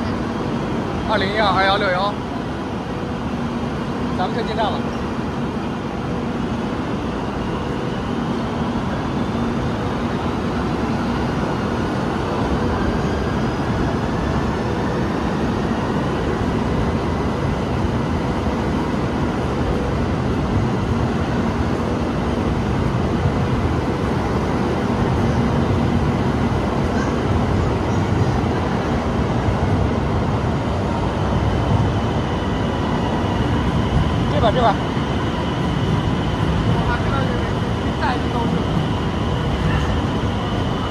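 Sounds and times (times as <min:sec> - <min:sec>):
train wheels rumbling on track: 0:00.0 - 0:40.9.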